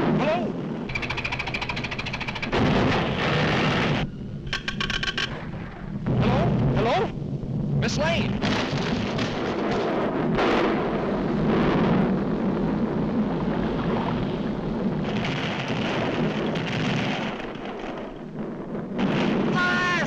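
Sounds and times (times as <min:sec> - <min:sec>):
volcano rumbling: 0:00.0 - 0:20.0.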